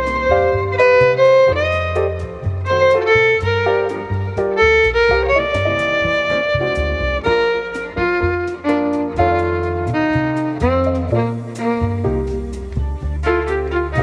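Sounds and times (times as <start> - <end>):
violin melody with bass and beat: 0.0 - 14.0.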